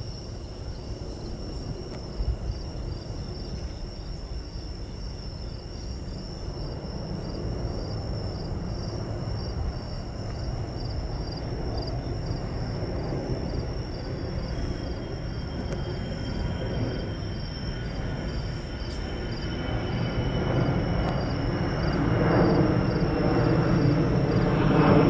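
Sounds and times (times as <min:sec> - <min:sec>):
insects trilling: 0:00.0 - 0:25.0
pulsing insect chirp: 0:00.0 - 0:25.0.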